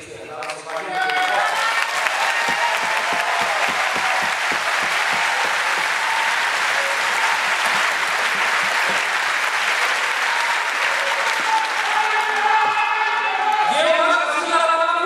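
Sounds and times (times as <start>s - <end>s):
crowd applauding: 0.0s - 14.5s.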